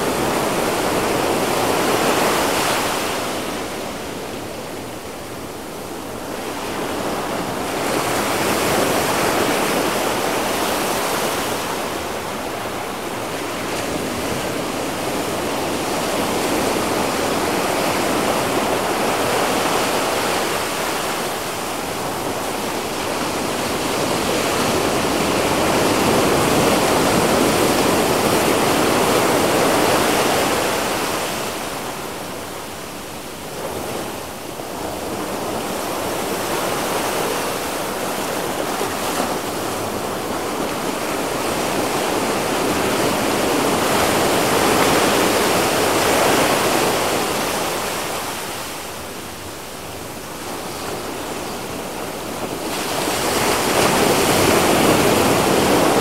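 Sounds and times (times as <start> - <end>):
surf waves washing up beach: 0.0 - 56.0.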